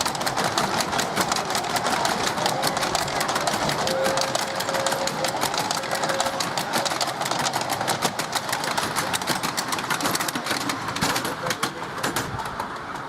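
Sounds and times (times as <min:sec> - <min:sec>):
miniature steam locomotive running: 0:00.0 - 0:13.0
wheels clattering on track: 0:00.0 - 0:13.0.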